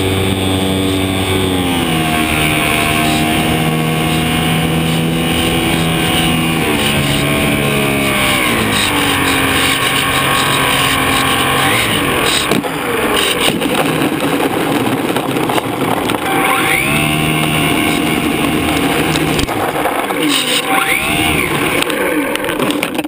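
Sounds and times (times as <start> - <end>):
electric motor and propeller whining: 0.0 - 23.0.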